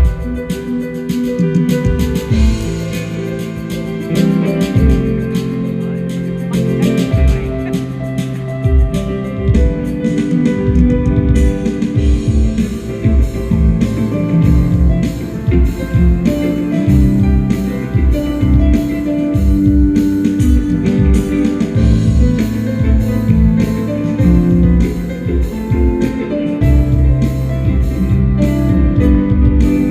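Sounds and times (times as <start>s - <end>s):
guitar: 0.0s - 29.9s
steady drumbeat: 0.0s - 29.9s.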